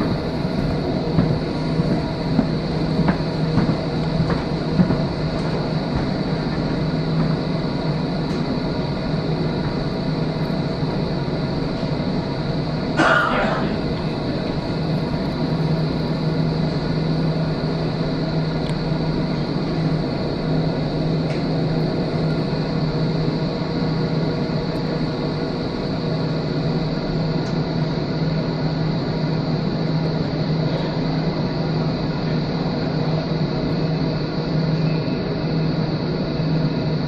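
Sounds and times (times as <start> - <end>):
steady low hum: 0.0 - 37.0
train wheels rumbling on rails: 0.0 - 37.0.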